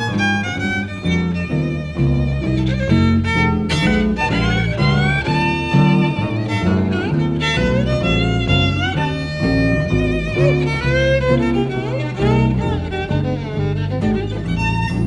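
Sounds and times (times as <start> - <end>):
bass: 0.0 - 15.0
jazz violin melody: 0.0 - 15.0
rhythmic guitar chords: 0.0 - 15.0.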